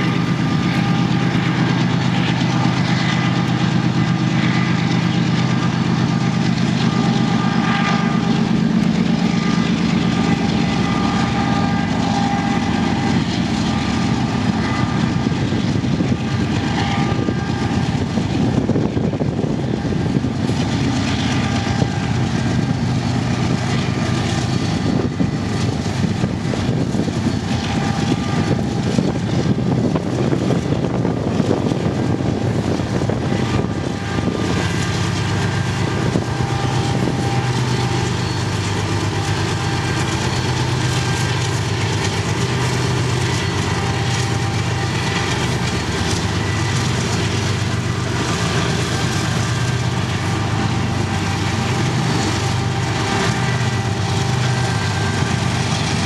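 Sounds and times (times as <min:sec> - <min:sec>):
diesel locomotive engines droning: 0:00.0 - 0:56.0.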